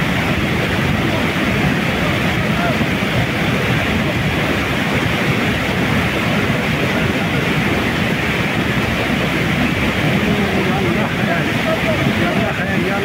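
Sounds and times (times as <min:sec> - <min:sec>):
white-water river rushing: 0:00.0 - 0:13.0.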